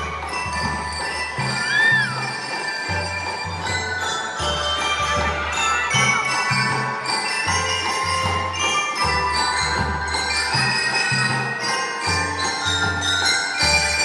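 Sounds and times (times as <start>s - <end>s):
bell lyres ringing melody: 0.0s - 14.0s.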